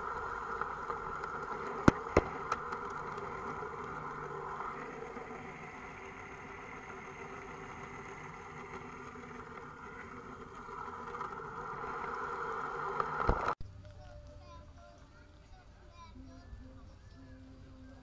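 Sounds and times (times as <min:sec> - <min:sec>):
model train humming on track: 0:00.0 - 0:18.0.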